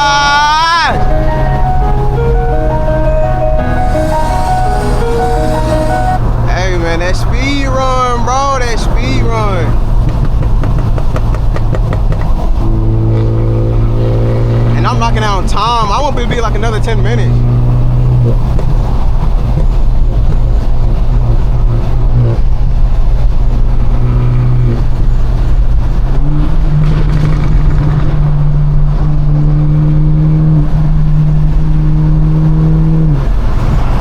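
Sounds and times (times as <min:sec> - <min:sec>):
car exhaust drone: 0:00.0 - 0:34.0.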